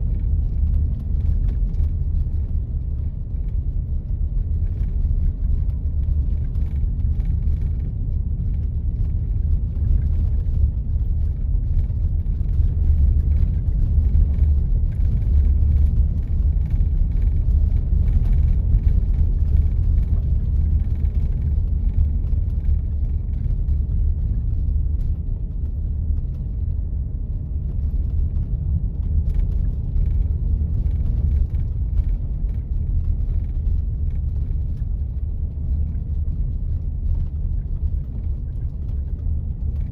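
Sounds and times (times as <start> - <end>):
vehicle engine and tyres rumbling: 0.0 - 39.9.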